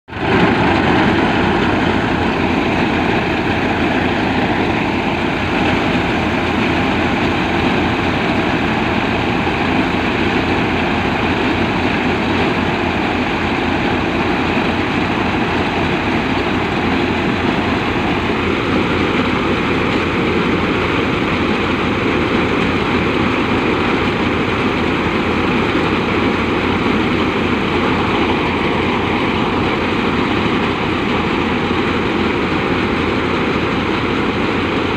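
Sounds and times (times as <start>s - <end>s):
auger discharging grain: 0.1s - 34.9s
tractor diesel engine running: 0.1s - 34.9s.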